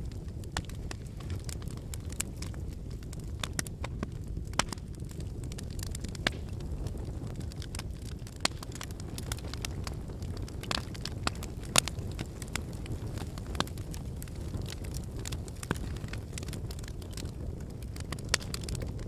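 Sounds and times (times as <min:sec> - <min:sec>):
firewood crackling and popping: 0:00.0 - 0:19.0
low rush of flame: 0:00.0 - 0:19.0.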